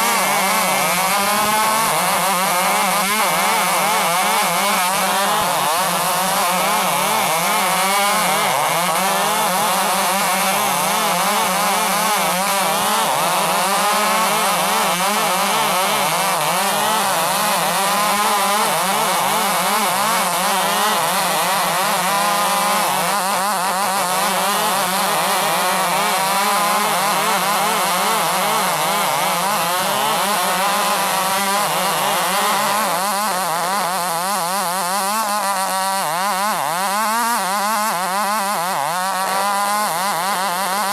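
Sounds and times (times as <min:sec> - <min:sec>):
chainsaw sawing through timber: 0:00.0 - 0:40.9.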